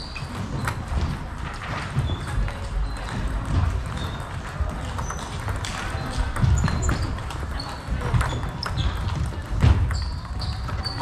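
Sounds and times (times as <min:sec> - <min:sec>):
shoes squeaking on floor: 0:00.0 - 0:11.0.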